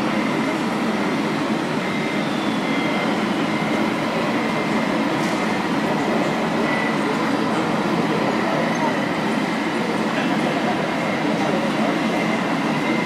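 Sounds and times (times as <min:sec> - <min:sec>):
busy exhibition hall noise: 0:00.0 - 0:13.0.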